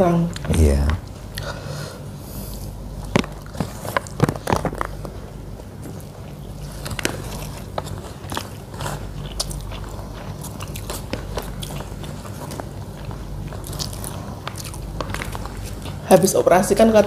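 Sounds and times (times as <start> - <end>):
steady low hum: 0.0 - 17.0
person chewing crunchy food: 2.4 - 16.4.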